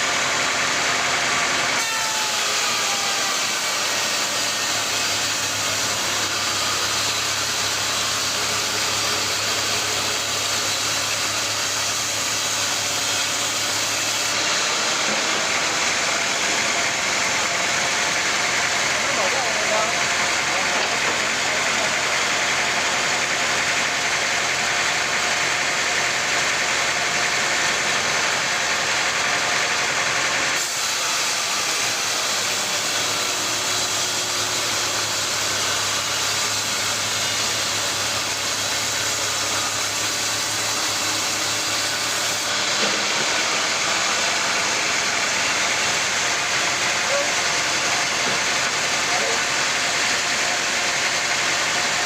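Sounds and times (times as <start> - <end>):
sawmill machinery humming: 0.0 - 52.0.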